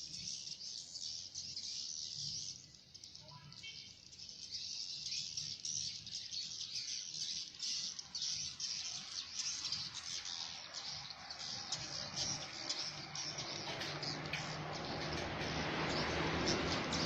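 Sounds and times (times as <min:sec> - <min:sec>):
birds twittering: 0:00.0 - 0:17.0.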